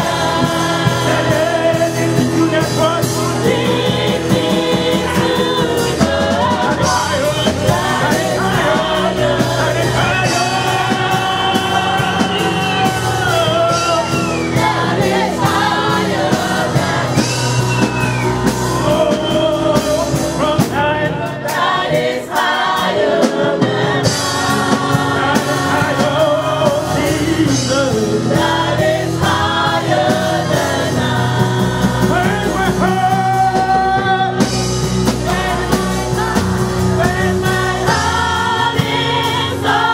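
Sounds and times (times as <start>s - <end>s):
man singing lead: 0.0s - 15.5s, 18.6s - 21.7s, 24.6s - 39.9s
band with drums: 0.0s - 39.9s
women singing: 0.0s - 39.9s.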